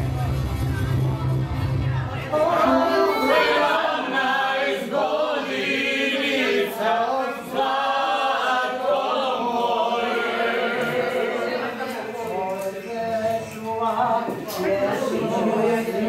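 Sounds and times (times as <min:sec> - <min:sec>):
group singing unaccompanied: 0:02.3 - 0:16.0.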